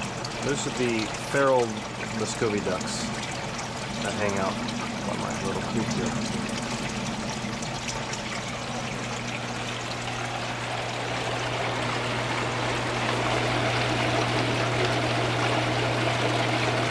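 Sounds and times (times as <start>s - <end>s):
low pump hum: 0.0s - 16.9s
water pouring and splashing: 0.0s - 16.9s.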